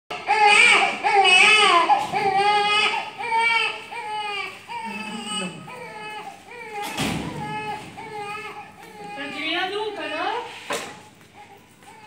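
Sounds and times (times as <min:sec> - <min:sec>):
infant crying: 0:00.1 - 0:10.6.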